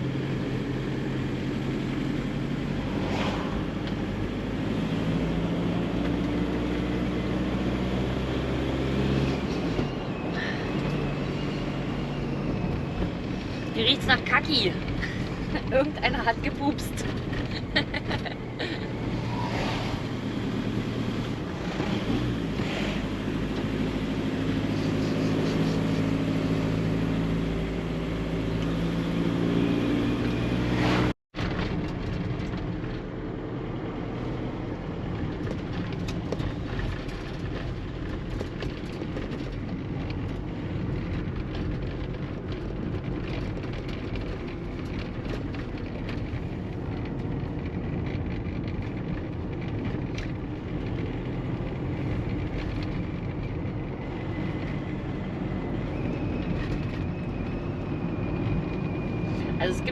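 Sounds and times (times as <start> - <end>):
tyres on the road: 0.0 - 59.9
van engine: 0.0 - 59.9.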